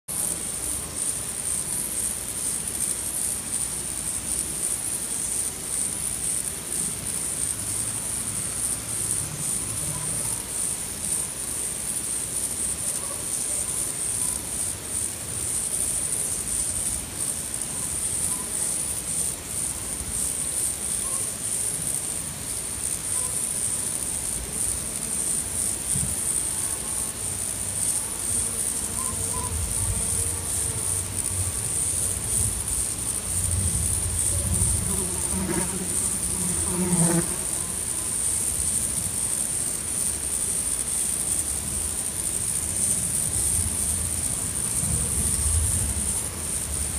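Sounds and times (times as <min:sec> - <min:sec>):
high-pitched insect trill: 0:00.1 - 0:46.9.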